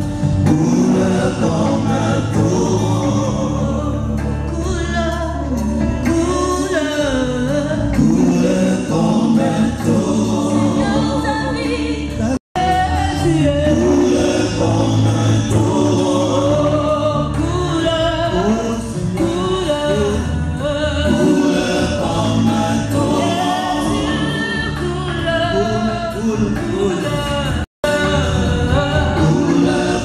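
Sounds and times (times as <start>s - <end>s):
congregation singing a gospel song: 0.0s - 30.0s.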